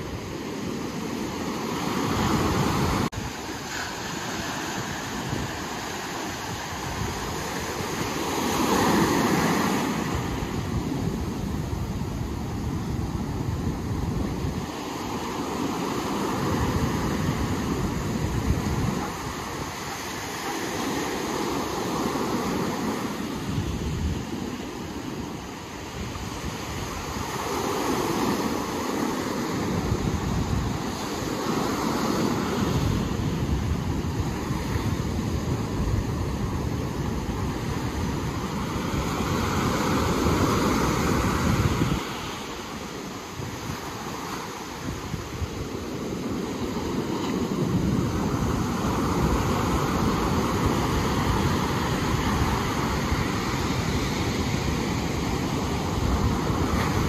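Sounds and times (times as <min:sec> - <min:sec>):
ocean surf washing on shore: 0:00.0 - 0:57.0
wind buffeting microphone: 0:00.0 - 0:57.0.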